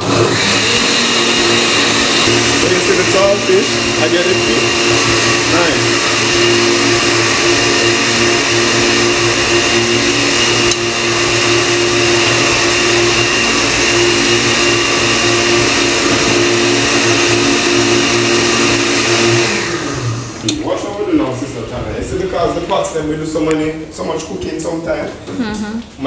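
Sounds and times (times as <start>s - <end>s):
blender whirring: 0.0s - 21.0s.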